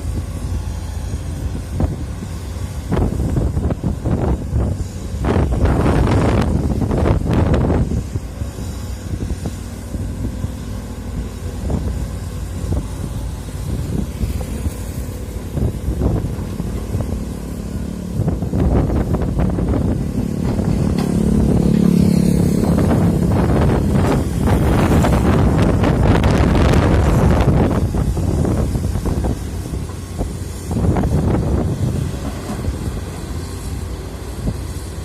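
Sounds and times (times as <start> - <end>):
excavator diesel engine running: 0.0 - 35.0
wind buffeting microphone: 0.0 - 35.0.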